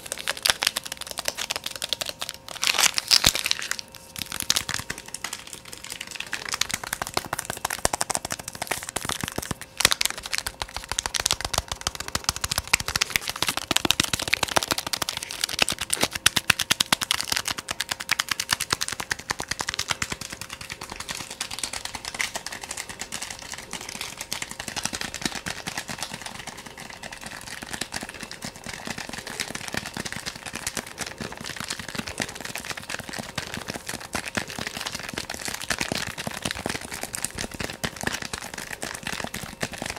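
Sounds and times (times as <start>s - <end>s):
rapid sharp tapping: 4.2s - 39.9s.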